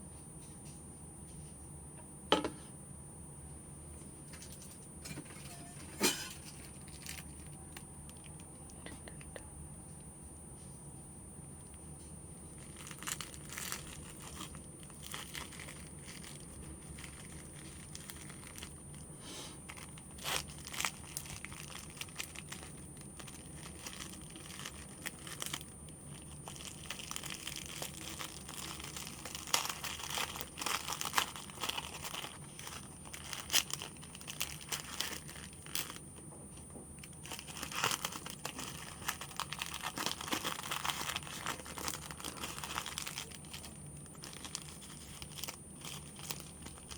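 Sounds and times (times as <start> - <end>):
plastic packaging crinkling: 4.3 - 9.2, 11.7 - 46.9.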